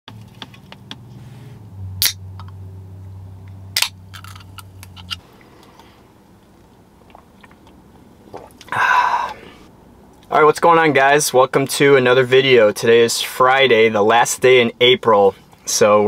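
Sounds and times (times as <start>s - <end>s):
low steady hum: 0.1s - 16.0s.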